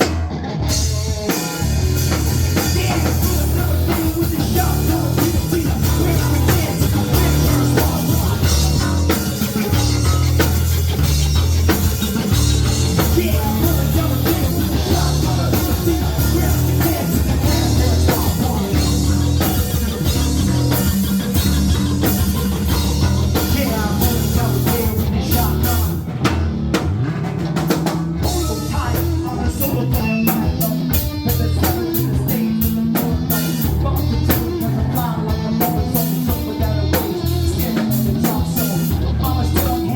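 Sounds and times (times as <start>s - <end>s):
live rock band playing: 0.0s - 39.9s
person singing: 0.1s - 26.1s, 28.2s - 39.9s.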